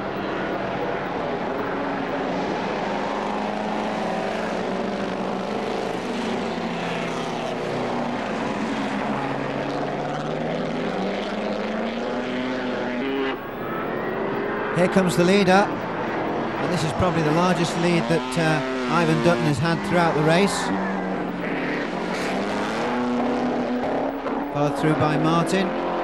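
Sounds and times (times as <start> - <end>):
racing car engines accelerating: 0.0 - 26.0.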